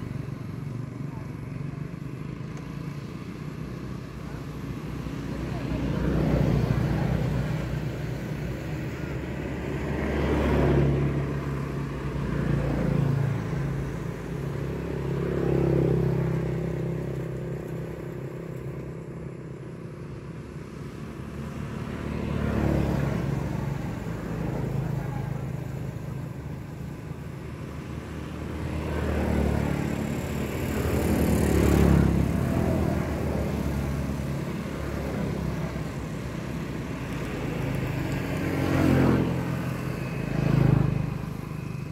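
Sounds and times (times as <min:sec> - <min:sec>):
low engine hum: 0:00.0 - 0:41.9
vehicles passing: 0:00.0 - 0:41.9.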